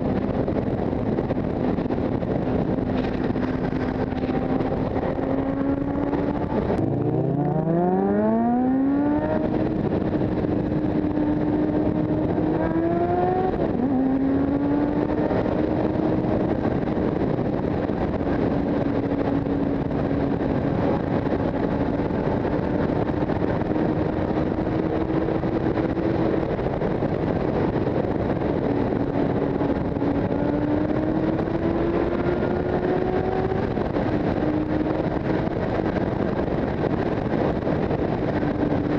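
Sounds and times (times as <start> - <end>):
motorcycle engine accelerating: 0.0 - 38.9
wind and road noise: 0.0 - 38.9.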